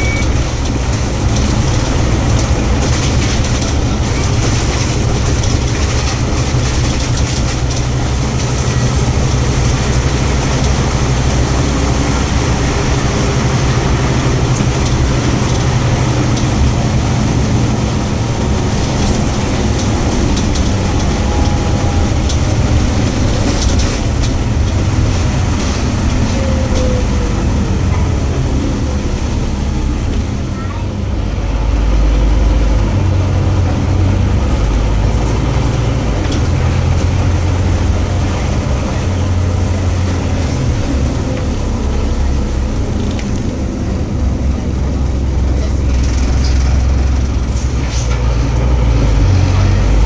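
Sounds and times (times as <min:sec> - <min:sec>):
bus engine drone: 0:00.0 - 0:50.0
road and cabin noise: 0:00.0 - 0:50.0.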